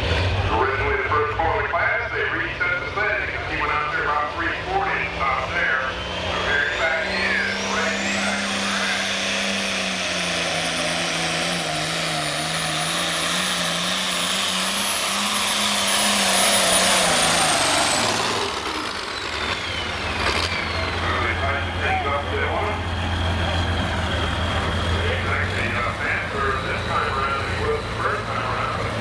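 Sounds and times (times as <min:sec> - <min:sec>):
diesel tractor engine at full throttle: 0:00.0 - 0:29.0.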